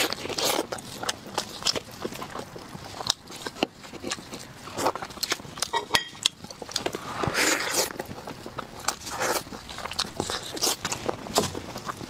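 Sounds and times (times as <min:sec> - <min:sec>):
meat tearing: 0:00.0 - 0:12.0
wet chewing clicks and smacks: 0:00.0 - 0:12.0.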